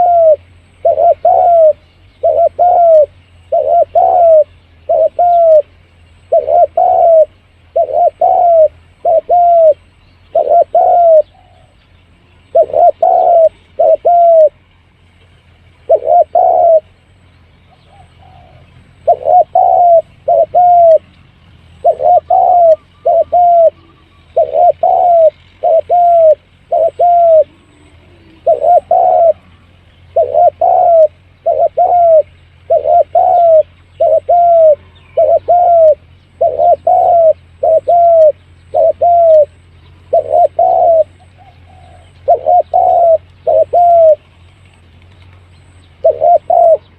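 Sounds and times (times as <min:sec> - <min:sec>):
dove cooing: 0:00.0 - 0:05.7, 0:06.3 - 0:11.8, 0:12.5 - 0:14.6, 0:15.8 - 0:17.0, 0:17.7 - 0:21.1, 0:21.8 - 0:44.3, 0:45.2 - 0:46.9
faint low hum: 0:00.0 - 0:46.9.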